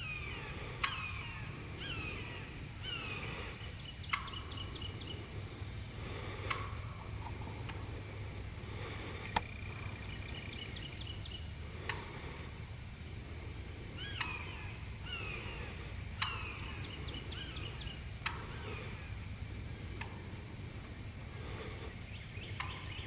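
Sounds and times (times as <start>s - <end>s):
low background rumble: 0.0s - 23.0s
songbirds calling: 0.0s - 23.0s.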